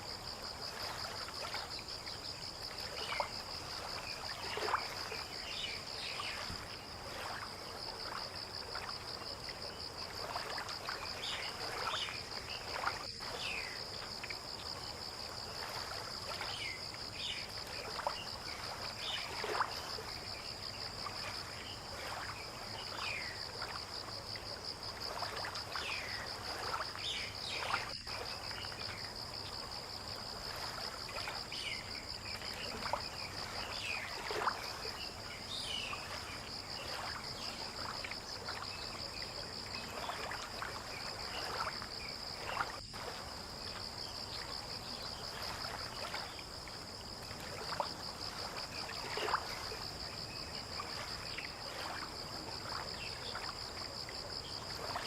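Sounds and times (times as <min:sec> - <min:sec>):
low water-like noise: 0:00.0 - 0:55.0.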